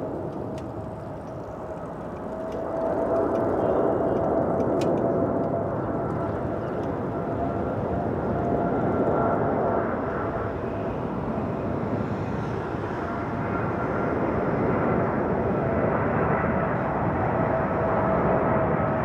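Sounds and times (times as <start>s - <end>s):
jet airliner on approach: 0.0s - 19.0s.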